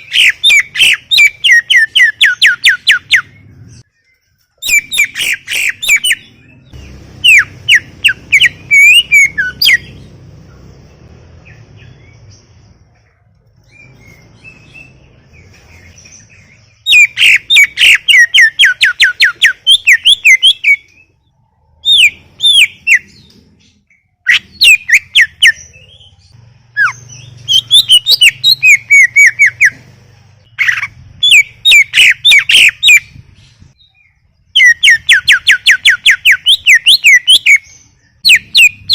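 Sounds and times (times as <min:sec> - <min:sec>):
bird singing rapid sharp notes: 0:00.0 - 0:38.9.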